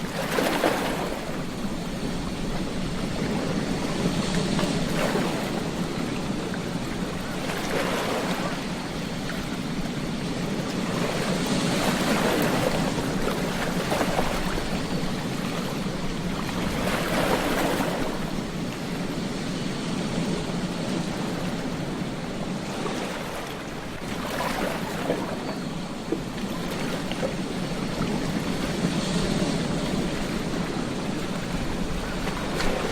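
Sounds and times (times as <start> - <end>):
ocean waves breaking on beach: 0.0 - 32.9.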